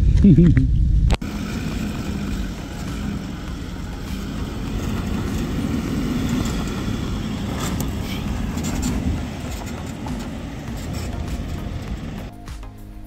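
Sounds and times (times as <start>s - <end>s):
car engine pulling steadily: 1.2s - 12.3s.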